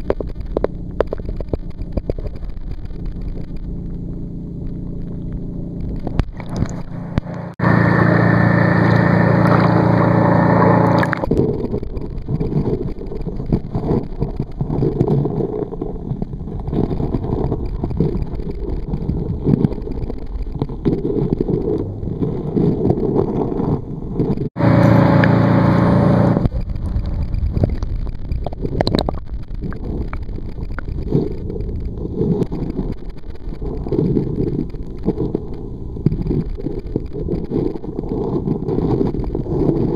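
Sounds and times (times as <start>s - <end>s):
muffled underwater rumble: 0.0s - 39.9s
underwater hum: 0.0s - 39.9s.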